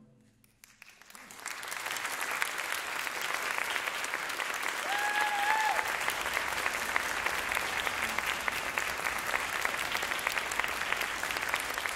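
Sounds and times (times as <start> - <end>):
audience applauding: 0.5 - 11.9.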